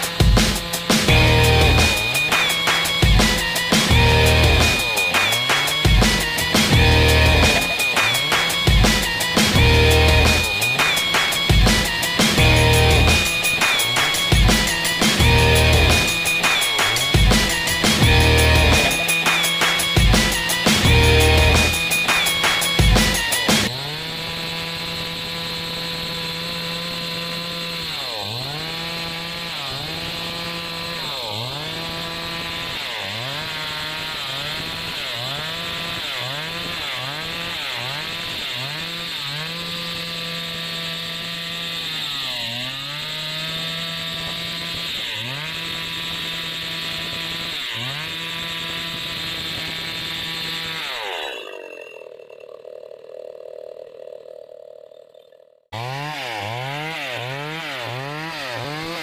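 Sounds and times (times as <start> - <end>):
chainsaw cutting log: 0.0 - 53.8, 55.2 - 59.0.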